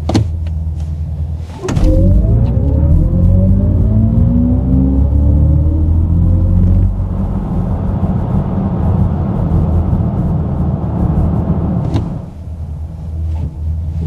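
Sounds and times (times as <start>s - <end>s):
tyre and road rumble: 0.0s - 14.0s.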